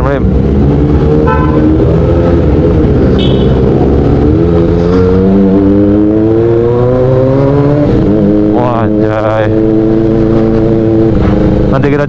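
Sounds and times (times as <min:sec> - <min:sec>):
motorcycle engine accelerating: 0:00.3 - 0:11.9.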